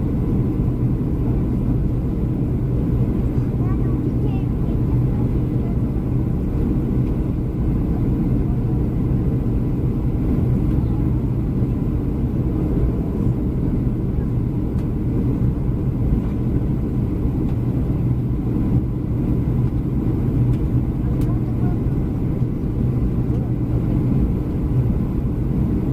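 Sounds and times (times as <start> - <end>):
aircraft cabin engine rumble: 0.0 - 25.9.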